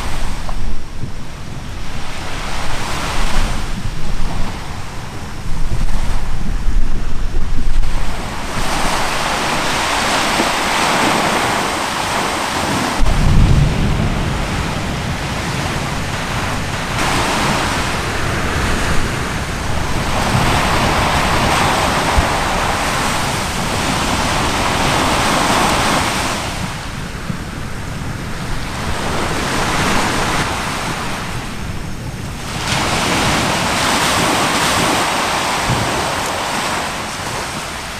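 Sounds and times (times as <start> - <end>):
deep rumble: 0.0 - 10.8, 13.0 - 32.6
sea waves washing ashore: 0.0 - 37.9
wind buffeting microphone: 0.0 - 37.9.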